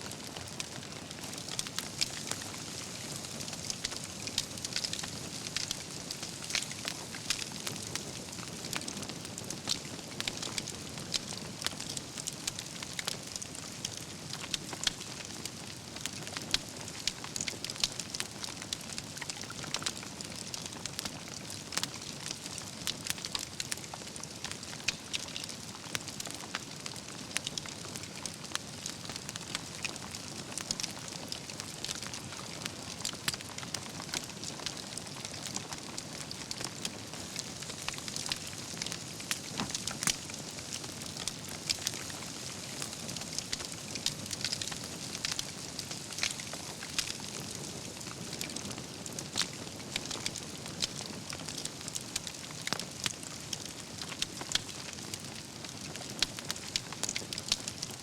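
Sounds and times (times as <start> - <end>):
low rumble of flame: 0.0 - 57.9
crackles and pops of burning logs: 0.0 - 58.0.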